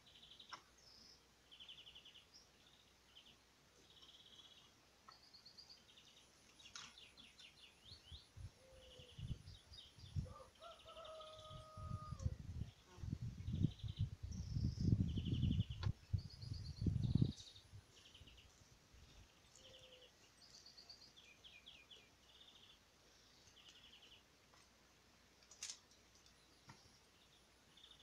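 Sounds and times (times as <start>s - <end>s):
songbirds trilling: 0.0s - 24.3s, 26.0s - 28.0s.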